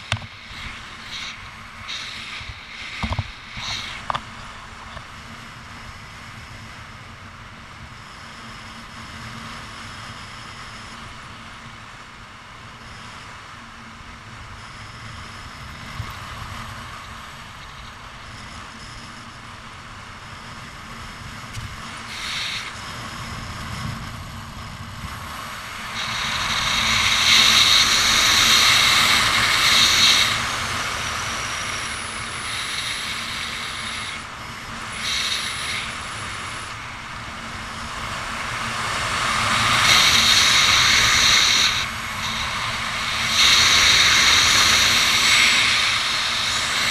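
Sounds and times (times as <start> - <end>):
wind rushing over microphone: 0.0 - 8.0, 14.1 - 46.9.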